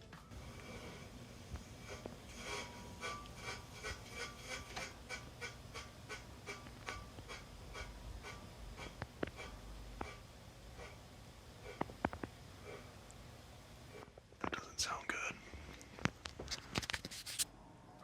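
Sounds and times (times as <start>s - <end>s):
ceiling fan low hum: 0.0s - 16.3s
ceiling fan rhythmic scrape: 0.0s - 17.5s.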